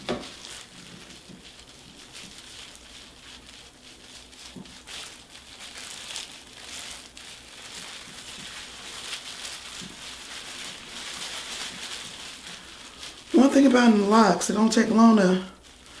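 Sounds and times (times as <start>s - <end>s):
hands rubbing hair: 0.0s - 16.0s.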